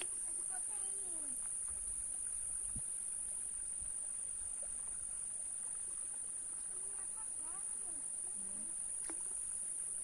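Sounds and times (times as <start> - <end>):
insect chorus drone: 0.0 - 10.0.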